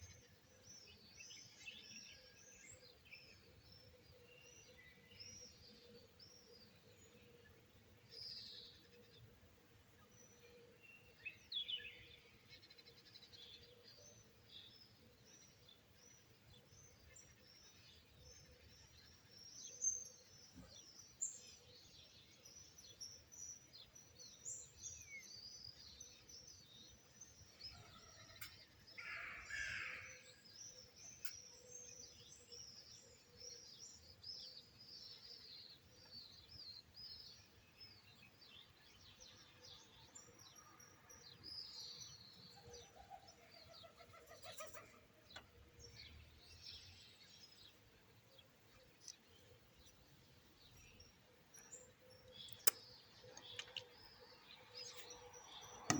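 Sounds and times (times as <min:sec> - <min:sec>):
songbirds chirping and twittering: 0:00.0 - 0:55.9.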